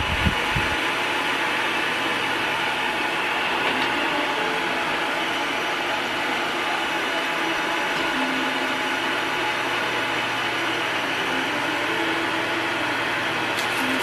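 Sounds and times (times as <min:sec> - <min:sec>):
fan rushing air: 0:00.0 - 0:14.0.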